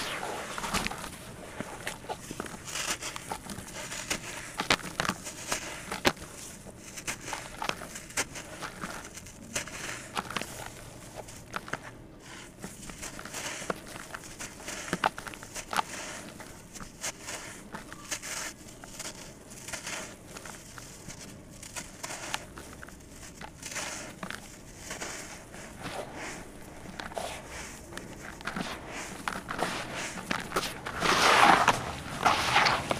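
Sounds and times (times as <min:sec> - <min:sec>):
sand-cement chunks crumbling: 0:00.0 - 0:32.9.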